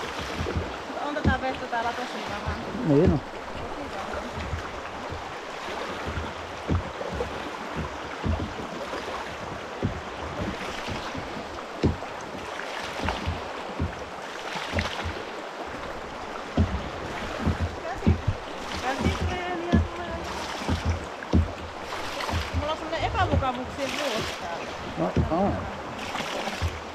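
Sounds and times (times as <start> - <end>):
river rapids rushing: 0.0 - 26.9
low thumps: 0.2 - 26.9.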